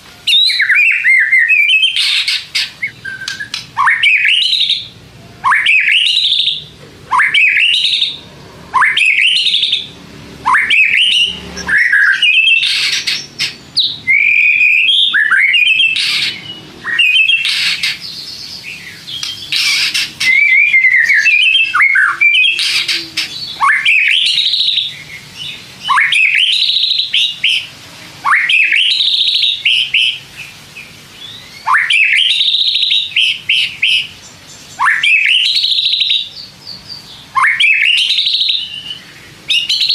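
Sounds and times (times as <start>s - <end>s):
bird singing whistled phrases: 0.3s - 30.2s, 31.2s - 39.9s.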